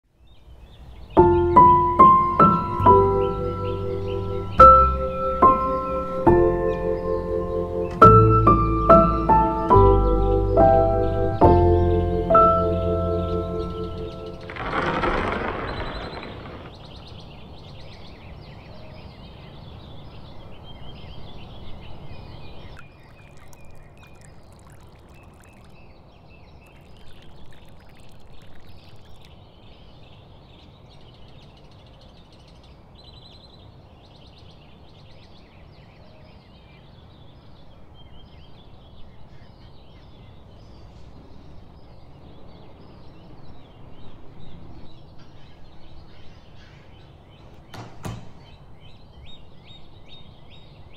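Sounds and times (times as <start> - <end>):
birds chirping: 0.2 - 50.9.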